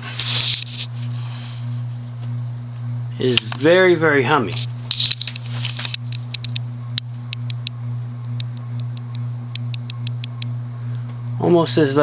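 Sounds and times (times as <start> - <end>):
ceiling fan motor humming: 0.0 - 12.0.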